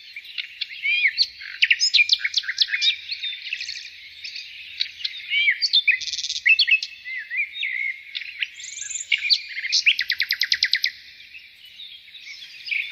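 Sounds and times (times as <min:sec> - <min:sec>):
songbirds chirping: 0:00.0 - 0:12.9.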